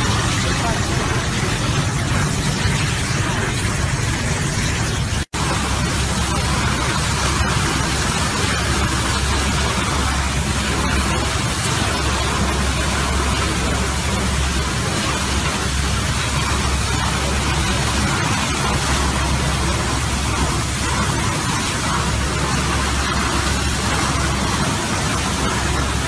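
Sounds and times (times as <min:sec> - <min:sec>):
low rumble: 0:00.0 - 0:26.0
pressurised water rushing hiss: 0:00.0 - 0:26.0.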